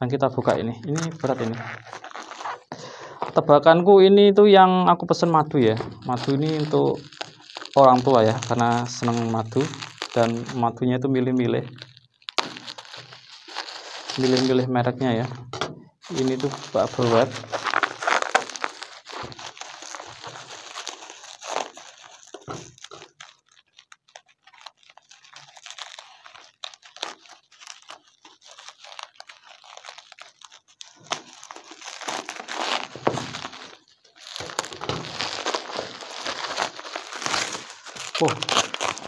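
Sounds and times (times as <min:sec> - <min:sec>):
bubble wrap crinkling and crackling: 0:00.0 - 0:39.0.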